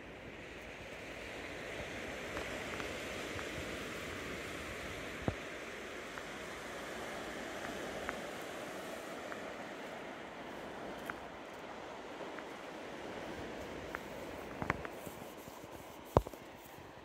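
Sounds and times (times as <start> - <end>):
waves washing on rocks: 0.4 - 17.0.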